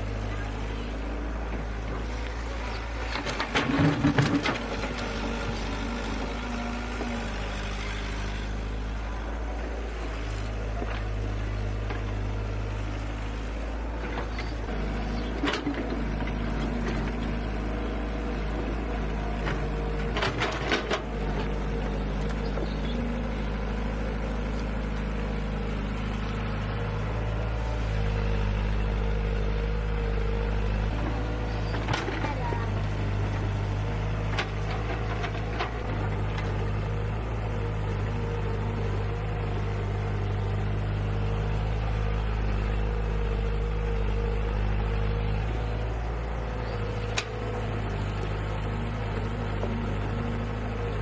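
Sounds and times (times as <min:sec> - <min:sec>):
heavy machine engine running: 0:00.0 - 0:51.0.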